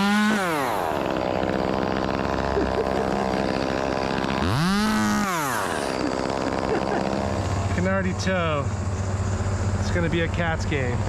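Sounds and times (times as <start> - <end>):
chainsaw revving: 0.0 - 11.0
engine droning: 0.0 - 11.0.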